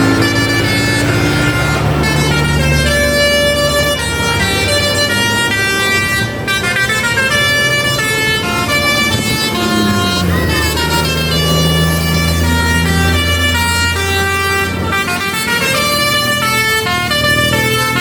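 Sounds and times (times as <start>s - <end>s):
bus engine running: 0.0s - 18.0s
multi-tone bus horn melody: 0.0s - 18.0s.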